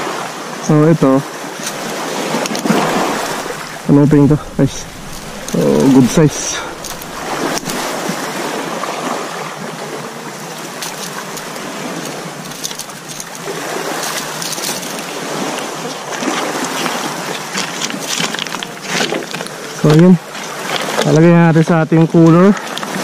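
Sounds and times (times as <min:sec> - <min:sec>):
sea water washing around boat: 0:00.0 - 0:23.0.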